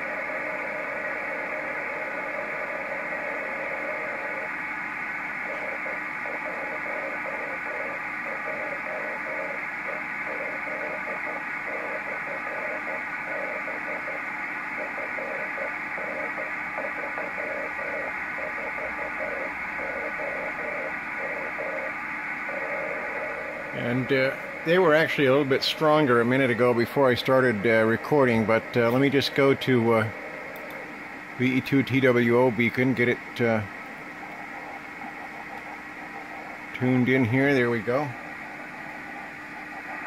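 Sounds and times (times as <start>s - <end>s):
receiver hiss: 0.0s - 40.0s.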